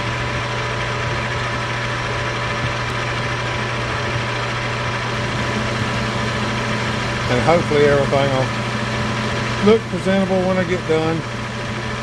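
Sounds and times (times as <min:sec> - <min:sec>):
metal lathe running: 0:00.0 - 0:12.0.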